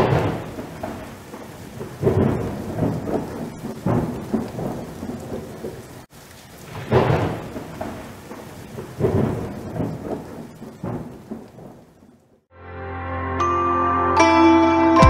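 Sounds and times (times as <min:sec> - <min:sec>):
steady rain: 0:00.0 - 0:12.5
thunder rolling: 0:00.0 - 0:12.5.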